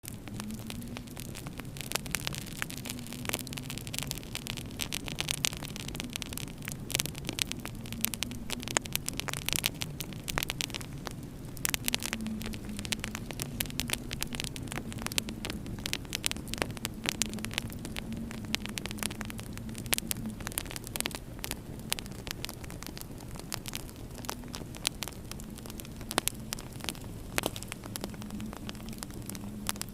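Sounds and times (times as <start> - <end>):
steady low hum: 0.0 - 29.9
wood fire crackling and popping: 0.0 - 29.9.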